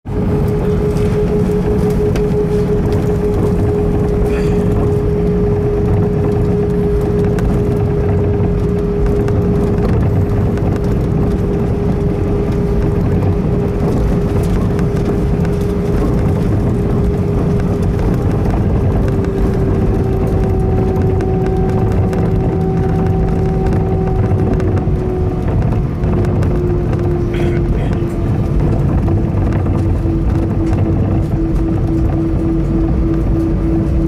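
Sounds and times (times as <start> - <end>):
constant whine: 0.0 - 34.0
low rumble of idling jet engines: 0.0 - 34.0.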